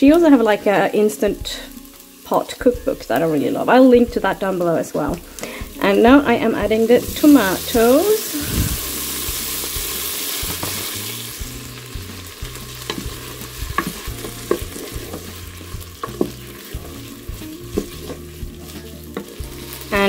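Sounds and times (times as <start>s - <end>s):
tomatoes sizzling in a pot: 0.0s - 20.0s.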